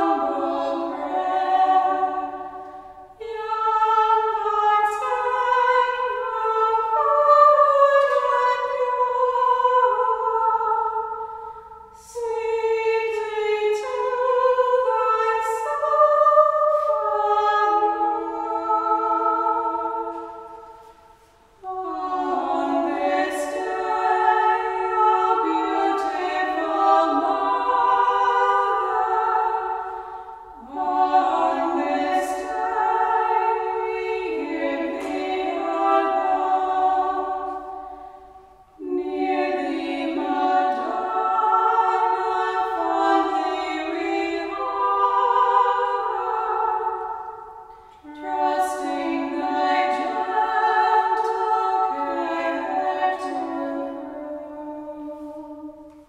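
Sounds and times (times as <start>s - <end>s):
women singing unaccompanied: 0.0s - 56.0s.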